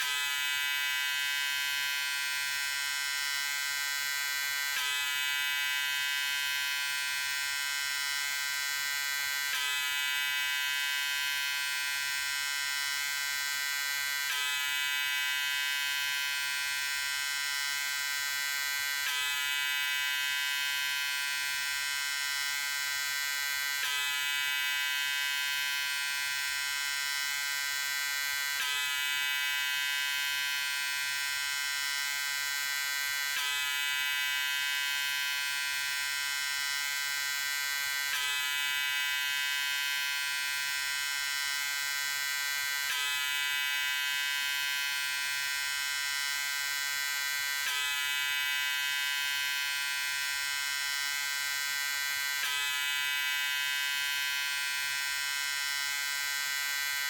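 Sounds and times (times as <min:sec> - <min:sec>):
electric shaver buzzing: 0:00.0 - 0:57.0.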